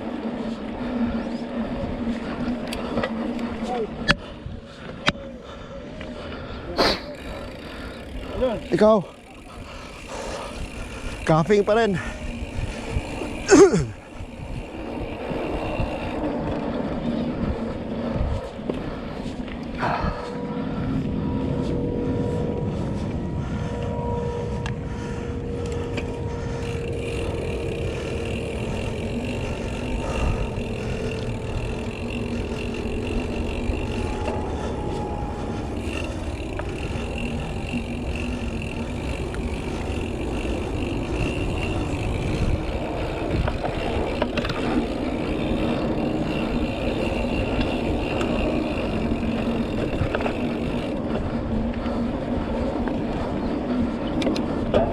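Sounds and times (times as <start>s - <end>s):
bike tyre noise on dirt: 0.0s - 54.9s
wind rush on microphone: 0.0s - 54.9s.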